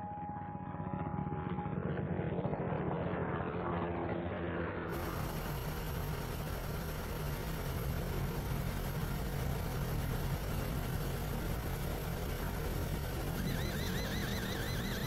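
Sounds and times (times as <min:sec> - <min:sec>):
aircraft engine and rotor drone: 0:00.0 - 0:15.0.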